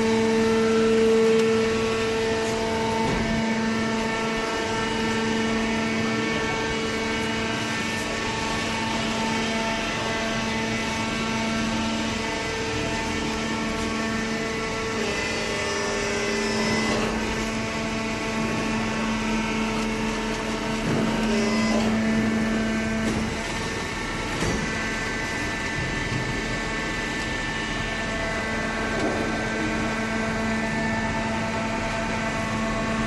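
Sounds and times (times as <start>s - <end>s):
hydraulic pump motor humming: 0.0s - 33.0s.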